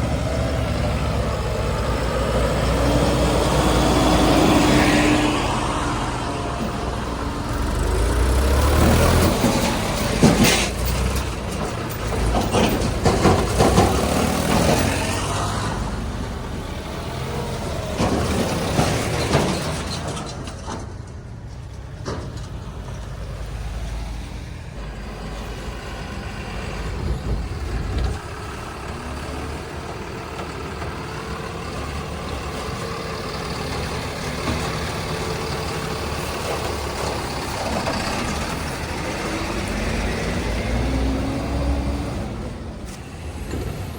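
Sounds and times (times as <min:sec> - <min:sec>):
heavy diesel engines revving: 0:00.0 - 0:43.9.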